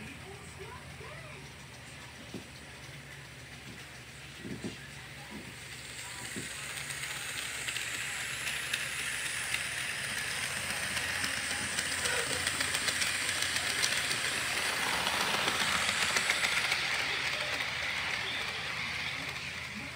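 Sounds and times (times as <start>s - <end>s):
model train wheels whirring: 0.0s - 19.9s.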